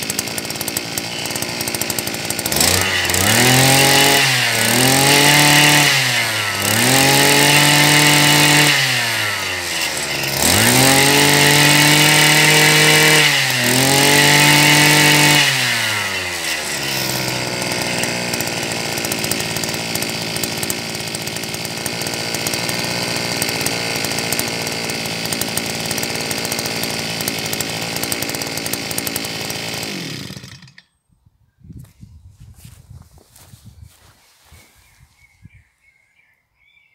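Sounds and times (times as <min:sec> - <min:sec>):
two-stroke engine revving and idling: 0:00.0 - 0:30.8.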